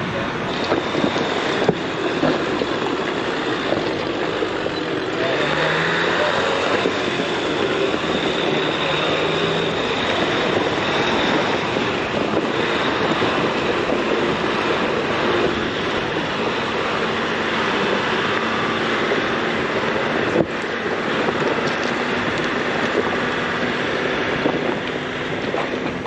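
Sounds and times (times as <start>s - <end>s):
tyre noise: 0.0s - 26.0s
vehicle engine: 0.0s - 26.0s
wind noise: 0.0s - 26.0s.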